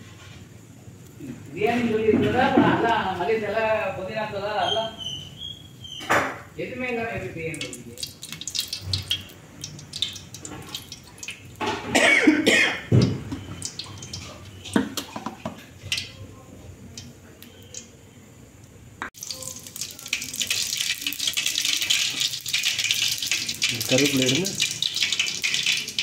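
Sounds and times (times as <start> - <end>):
hot oil crackling: 4.8 - 26.0.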